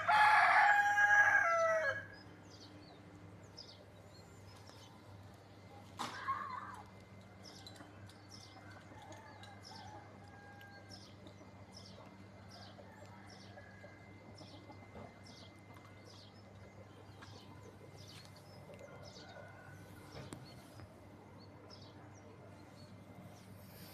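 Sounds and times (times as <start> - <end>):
chickens chirping: 0.0 - 23.9
steady low hum: 0.0 - 23.9.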